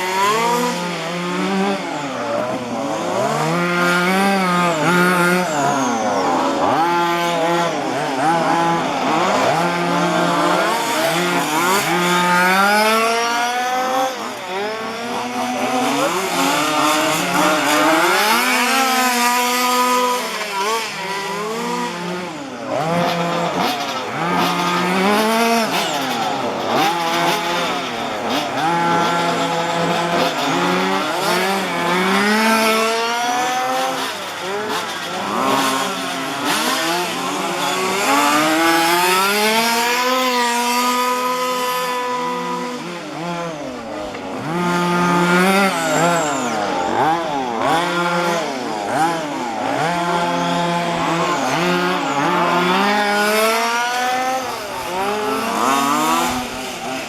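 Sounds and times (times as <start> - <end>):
small two-stroke engines revving: 0.0 - 57.0.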